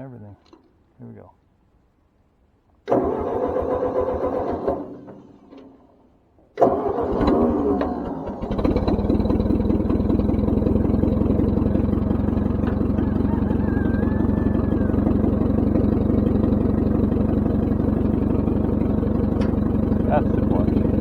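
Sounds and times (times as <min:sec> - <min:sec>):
tractor engine running: 0:02.9 - 0:05.8, 0:06.6 - 0:21.0.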